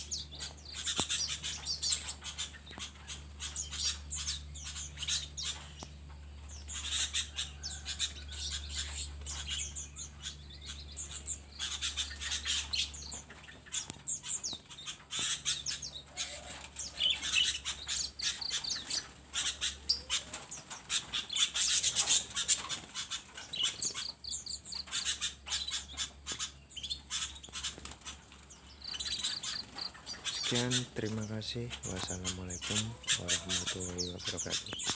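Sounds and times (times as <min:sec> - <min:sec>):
cage birds chirping and squawking: 0:00.0 - 0:34.9.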